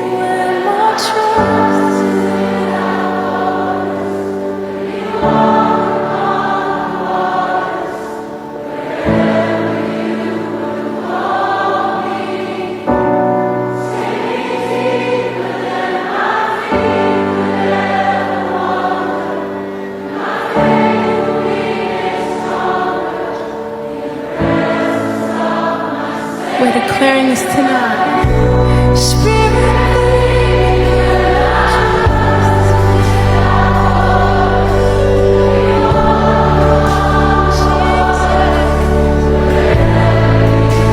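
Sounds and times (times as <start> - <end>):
choir singing sustained chords: 0.0 - 40.9.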